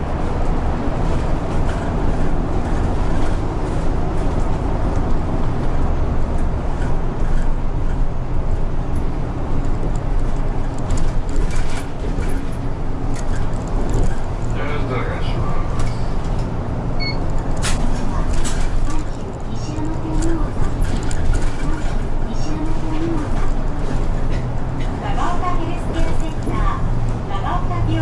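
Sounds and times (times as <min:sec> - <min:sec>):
bus engine: 0:00.0 - 0:28.0
road noise: 0:00.0 - 0:28.0.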